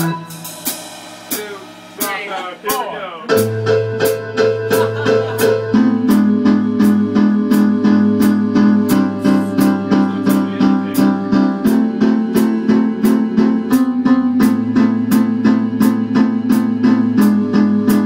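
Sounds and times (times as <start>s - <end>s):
instrumental music with drums: 0.0s - 18.0s.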